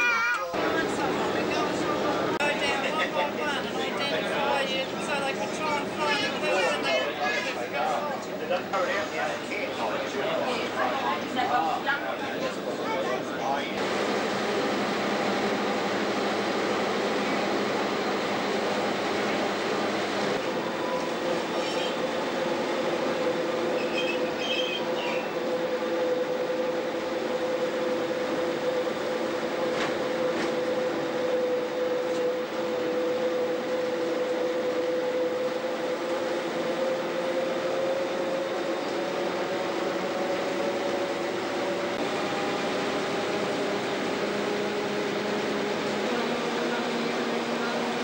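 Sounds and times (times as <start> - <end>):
railcar engine drone: 0.5 - 48.0
wheel and track noise: 0.5 - 48.0.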